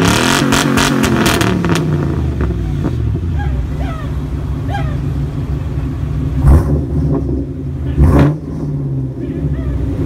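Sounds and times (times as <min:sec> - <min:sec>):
loud exhaust rumble: 0:00.0 - 0:10.0.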